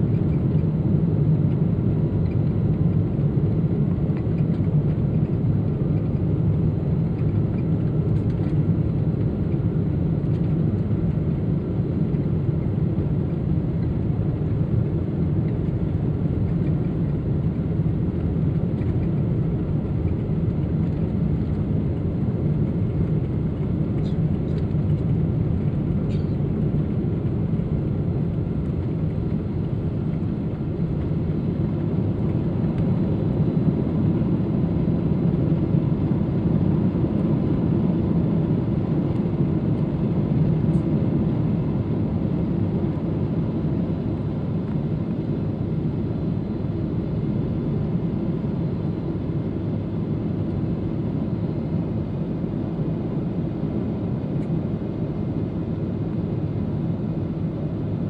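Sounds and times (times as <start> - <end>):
jet engines rumbling: 0.0 - 56.8.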